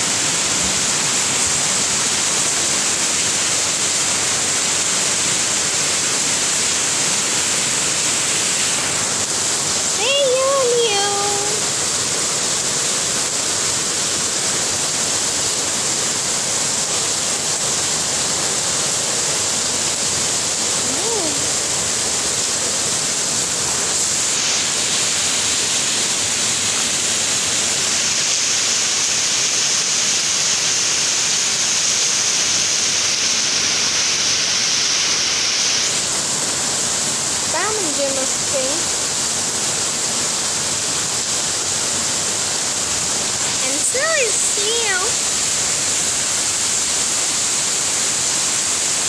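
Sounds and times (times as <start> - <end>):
heavy rain: 0.0 - 49.0.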